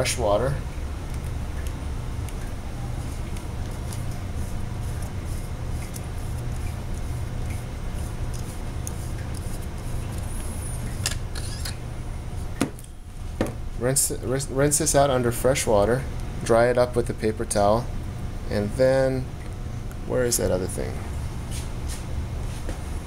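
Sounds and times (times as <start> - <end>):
low room hum and hiss: 0.0 - 23.0.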